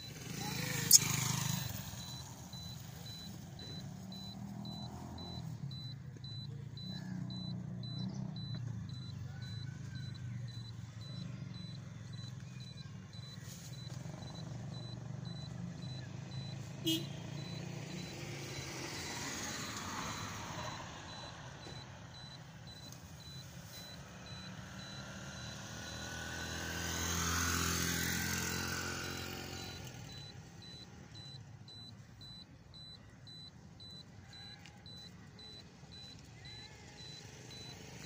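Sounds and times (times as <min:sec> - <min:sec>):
high beep: 0:00.0 - 0:26.6, 0:28.4 - 0:37.8
road vehicle passing: 0:00.0 - 0:38.0.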